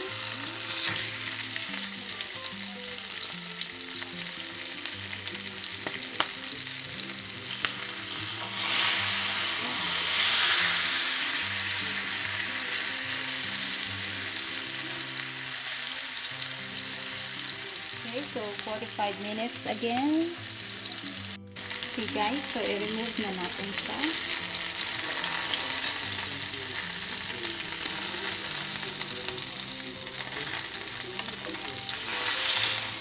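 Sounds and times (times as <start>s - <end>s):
meat sizzling in a skillet: 0.0s - 33.0s.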